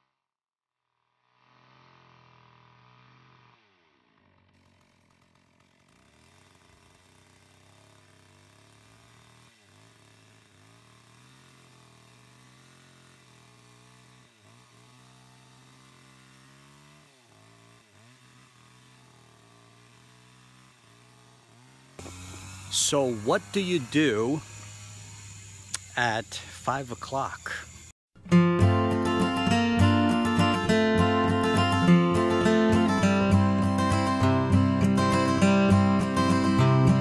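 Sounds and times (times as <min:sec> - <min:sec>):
chainsaw cutting tree: 0:01.3 - 0:37.0.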